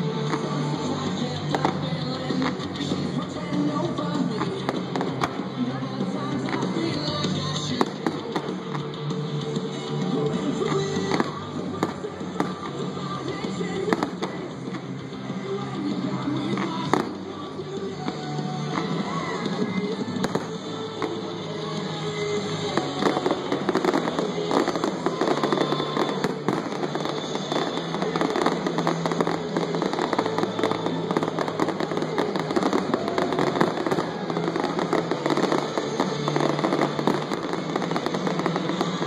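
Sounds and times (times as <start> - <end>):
fireworks bangs and crackles: 0.0 - 39.0
music playing: 0.0 - 39.0.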